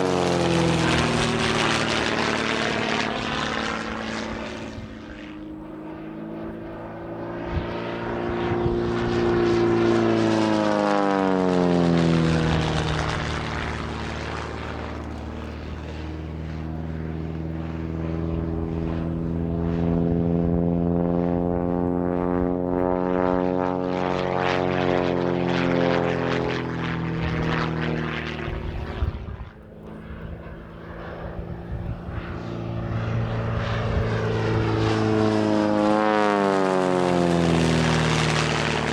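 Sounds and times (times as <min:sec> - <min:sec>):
biplane engine and propeller: 0:00.0 - 0:38.9.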